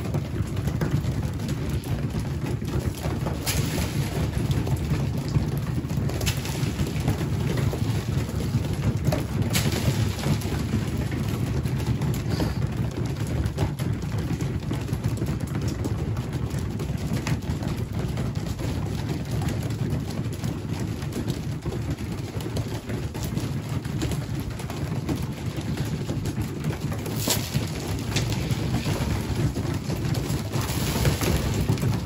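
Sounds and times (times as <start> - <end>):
pigeons pecking grain: 0.0 - 32.0.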